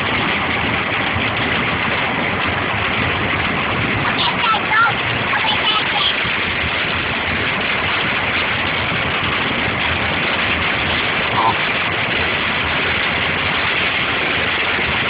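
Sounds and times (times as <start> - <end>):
rain on car: 0.0 - 15.0
tyres on water: 0.0 - 15.0.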